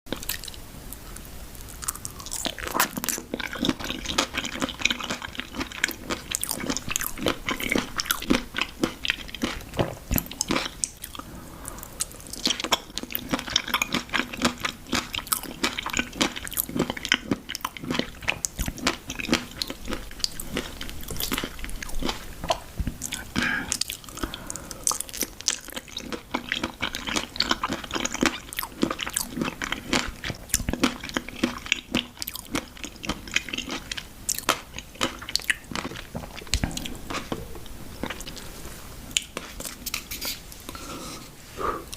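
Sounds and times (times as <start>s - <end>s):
person chewing crunchy food: 0.1s - 41.9s.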